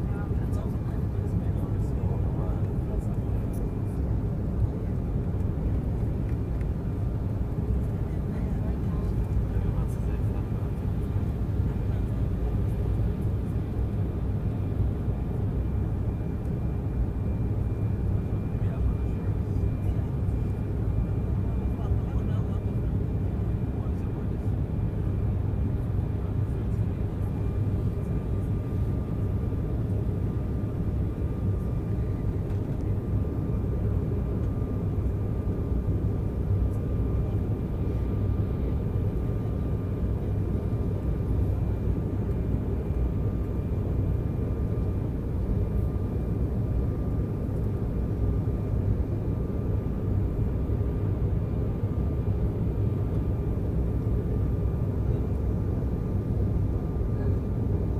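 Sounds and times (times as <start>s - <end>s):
jet engine and airflow rumble: 0.0s - 57.9s.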